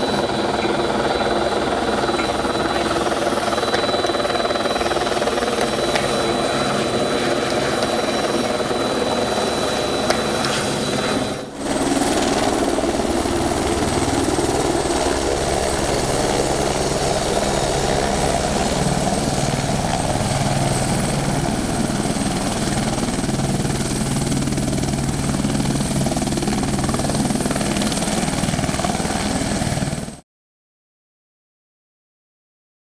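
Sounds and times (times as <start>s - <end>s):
turbine whine: 0.0s - 30.1s
helicopter rotor beat: 0.0s - 30.2s.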